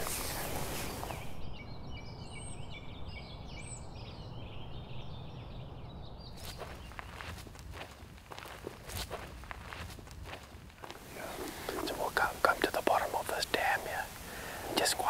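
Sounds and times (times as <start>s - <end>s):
birds chirping and trilling: 0.0s - 8.7s, 10.8s - 15.0s.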